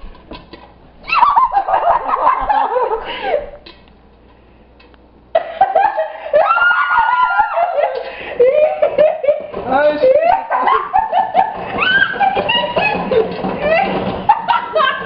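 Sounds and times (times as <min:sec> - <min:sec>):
people laughing and giggling: 0:01.2 - 0:03.6, 0:05.3 - 0:15.0.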